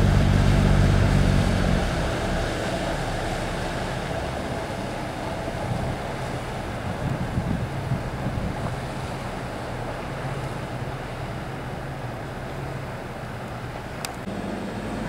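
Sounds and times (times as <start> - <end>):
boat motor humming: 0.0 - 15.0
water noise: 0.0 - 15.0
wind: 0.0 - 15.0.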